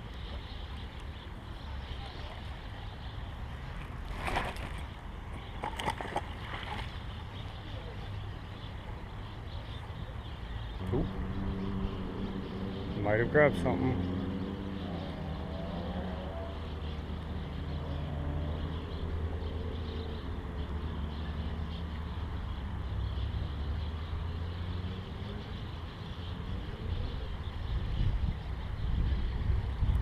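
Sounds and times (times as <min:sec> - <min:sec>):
motor vehicle engines droning: 0:00.0 - 0:30.0.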